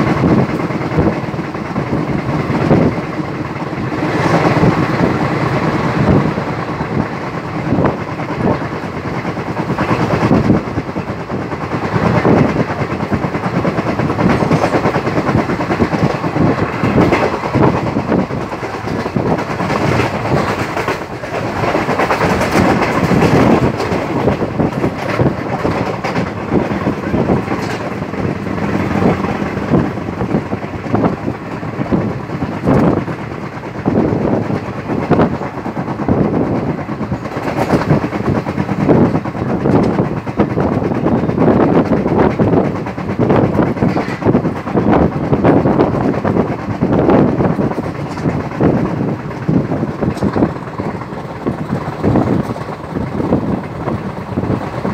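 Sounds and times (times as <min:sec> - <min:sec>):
train rumble: 0:00.0 - 0:54.9
wheels clacking over rail joints: 0:00.0 - 0:54.9
wind rush: 0:00.0 - 0:54.9.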